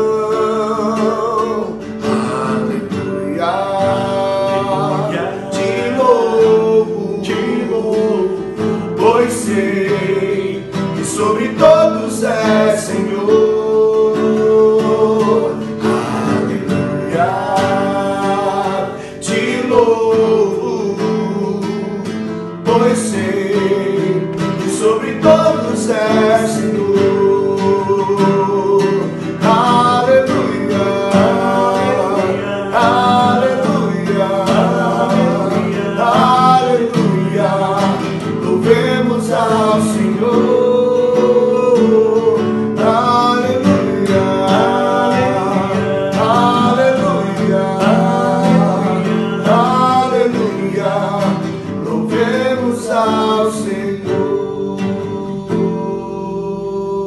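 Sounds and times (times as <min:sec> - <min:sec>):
person singing: 0:00.0 - 0:57.0
strummed acoustic guitar: 0:00.0 - 0:57.0.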